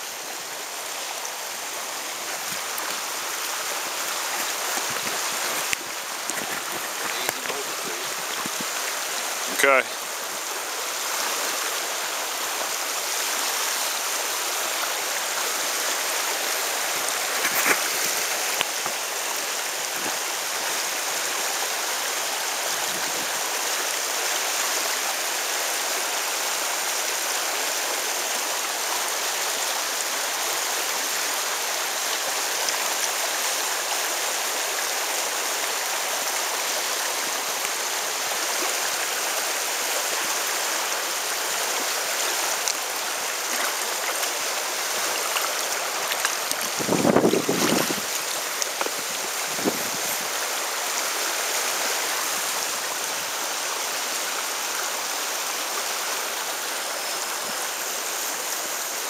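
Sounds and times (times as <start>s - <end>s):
stream flowing over gravel: 0.0s - 59.0s.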